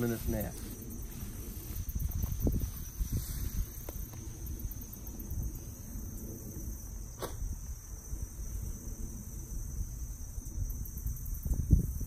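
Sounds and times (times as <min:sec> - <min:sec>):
insect chorus: 0:00.0 - 0:12.0
low outdoor rumble: 0:00.0 - 0:12.0.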